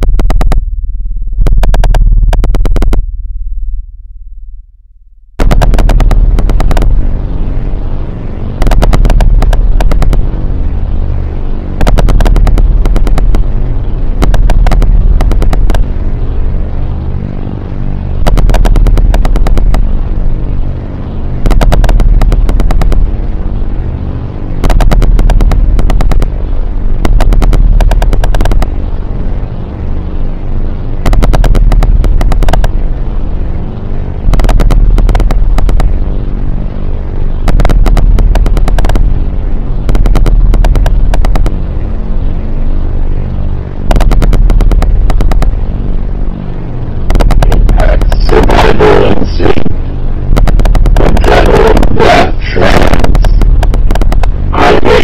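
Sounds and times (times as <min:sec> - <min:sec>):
rapid stuttering clicks: 0:00.0 - 0:00.7, 0:01.3 - 0:03.1, 0:05.4 - 0:55.0
distorted harsh noise: 0:00.0 - 0:03.9, 0:05.3 - 0:55.0
heavy low drone: 0:00.0 - 0:55.0.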